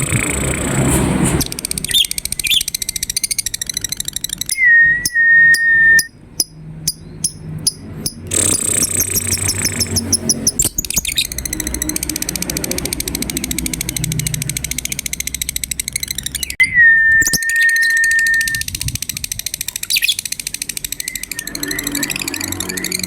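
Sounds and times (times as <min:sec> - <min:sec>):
lovebird chattering trill: 0:01.4 - 0:23.0
lovebird whistling and chirping: 0:01.6 - 0:12.6, 0:13.2 - 0:23.0.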